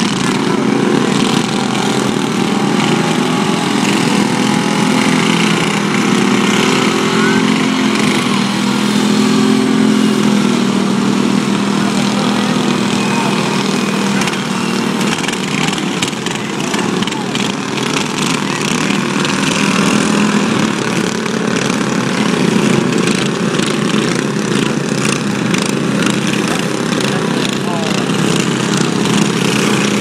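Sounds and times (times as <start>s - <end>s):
lawn mower engines running: 0.0s - 30.0s.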